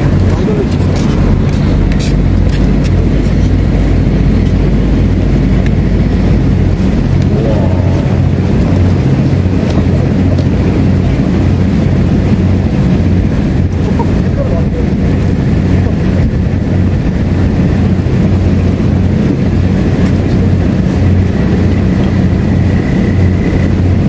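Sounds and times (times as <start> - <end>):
boat engine idling: 0.0 - 24.0.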